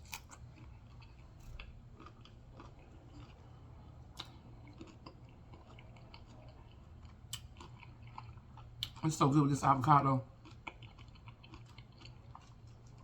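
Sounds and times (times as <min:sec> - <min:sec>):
person chewing crunchy chips: 0:00.0 - 0:13.0.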